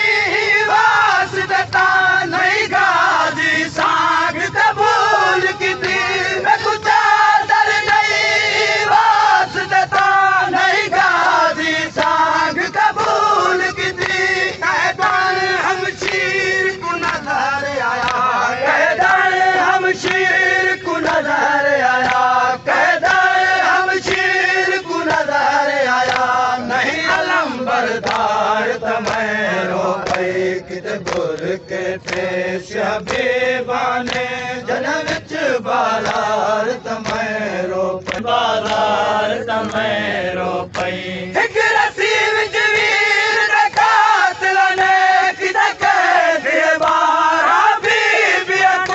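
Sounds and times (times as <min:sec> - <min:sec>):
men chanting a lament: 0:00.0 - 0:48.9.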